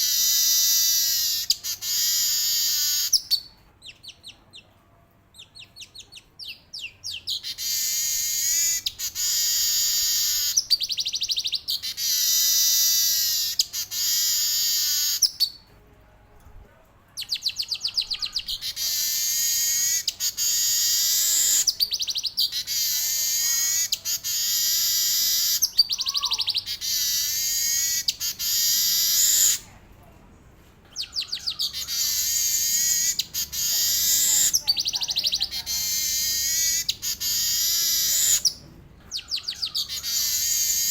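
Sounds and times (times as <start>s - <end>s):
weaver bird singing: 0.0s - 4.4s, 5.4s - 15.6s, 17.2s - 29.6s, 30.9s - 40.9s.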